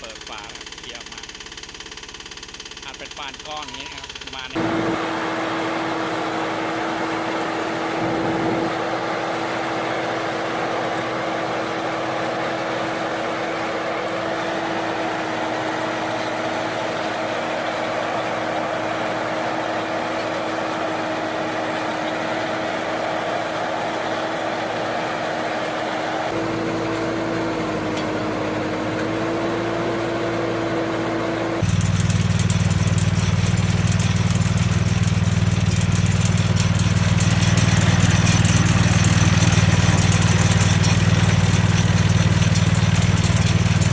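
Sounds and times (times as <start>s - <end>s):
deep engine drone: 2.2s - 43.9s
hay baling machinery running: 2.6s - 43.9s.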